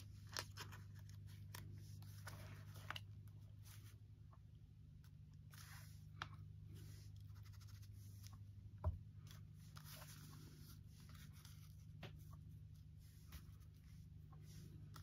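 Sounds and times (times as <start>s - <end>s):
paper rustling on a tabletop: 0.0s - 4.0s, 5.0s - 8.4s, 9.1s - 15.0s
low steady hum: 0.0s - 15.0s.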